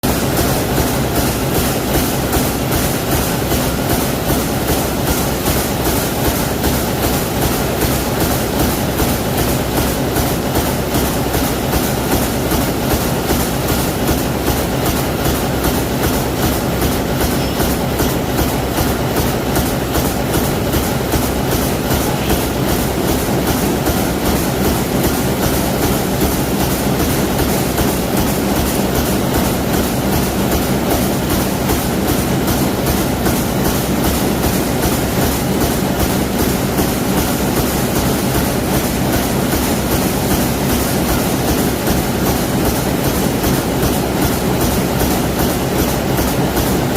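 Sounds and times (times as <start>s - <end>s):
press machine clattering: 0.0s - 46.9s.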